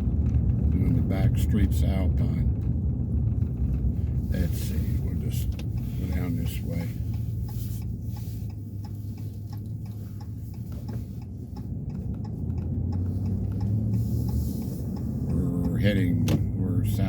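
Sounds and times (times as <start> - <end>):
engine and road hum: 0.0 - 17.0
turn signal ticking: 0.0 - 17.0.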